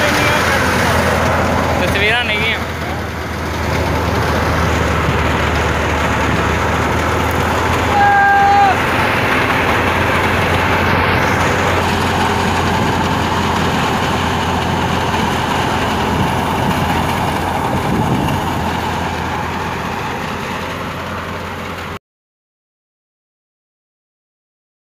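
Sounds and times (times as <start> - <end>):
thresher machine drone: 0.0 - 22.0.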